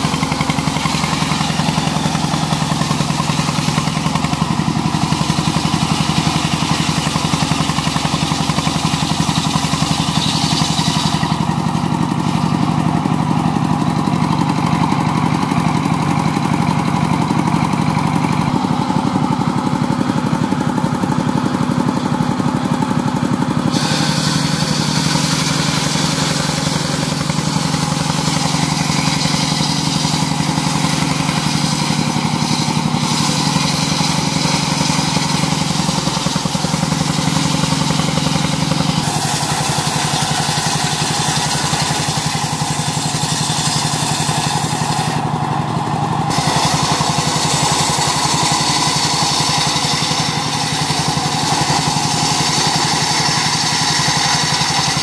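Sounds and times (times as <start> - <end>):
saw blade cutting wood: 0.0 - 55.0
sawmill engine running: 0.0 - 55.0.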